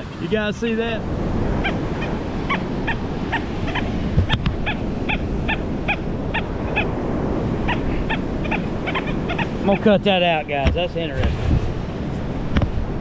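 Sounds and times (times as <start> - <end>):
surf: 0.0 - 13.0
wind: 0.0 - 13.0.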